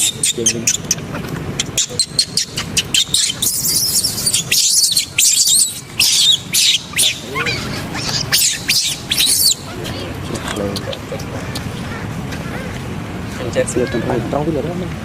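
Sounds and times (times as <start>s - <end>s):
monkey squealing calls: 0.0s - 12.8s, 13.7s - 14.3s.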